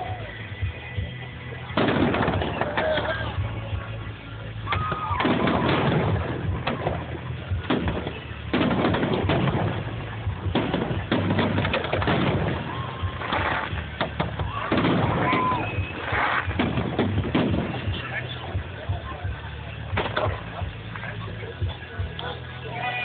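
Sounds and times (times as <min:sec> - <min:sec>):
fireworks crackling: 0:00.0 - 0:23.0.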